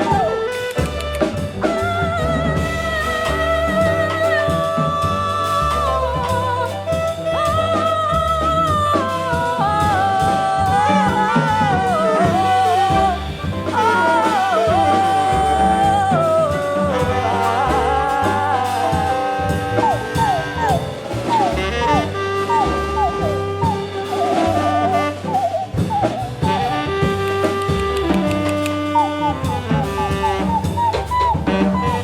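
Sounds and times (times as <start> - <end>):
double bass: 0.0 - 32.0
drums: 0.0 - 32.0
lead instrument melody: 0.0 - 32.0
piano: 0.0 - 32.0.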